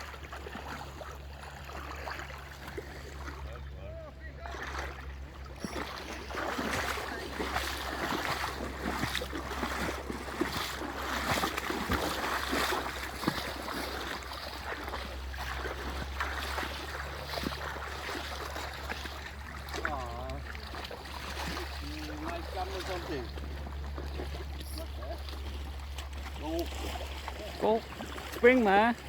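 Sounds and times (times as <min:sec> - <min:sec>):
running river water: 0:00.0 - 0:29.0.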